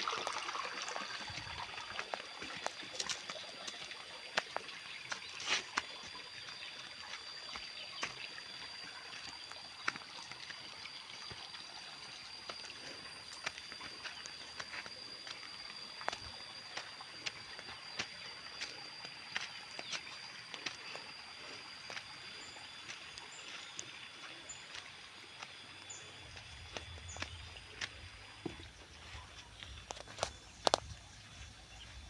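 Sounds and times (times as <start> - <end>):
water trickling: 0.0 - 32.0.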